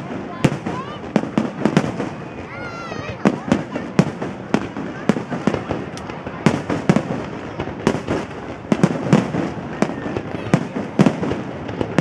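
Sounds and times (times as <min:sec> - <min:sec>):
firework crackle: 0:00.0 - 0:12.0.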